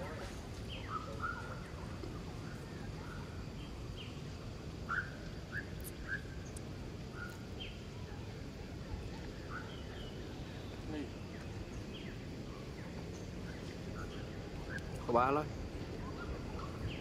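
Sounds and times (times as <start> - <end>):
birds chirping downward calls: 0.6 - 17.0.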